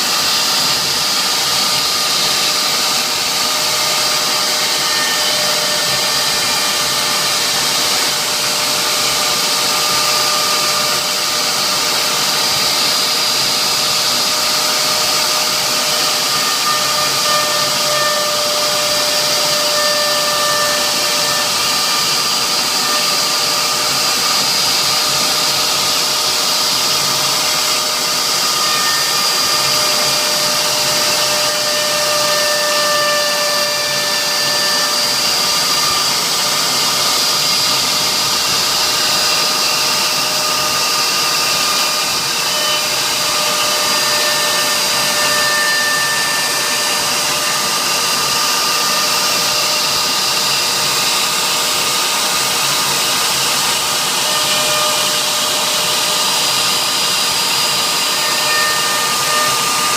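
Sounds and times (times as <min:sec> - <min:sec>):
cnc router spindle whining: 0:00.0 - 0:59.9.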